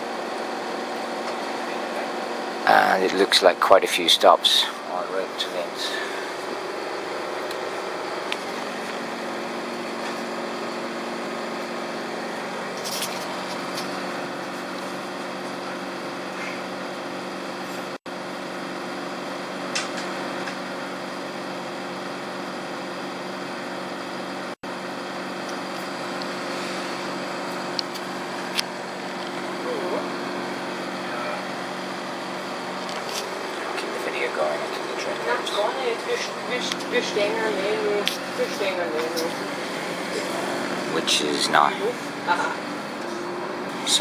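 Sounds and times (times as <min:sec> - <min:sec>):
train engine idling hum: 0:00.0 - 0:44.0.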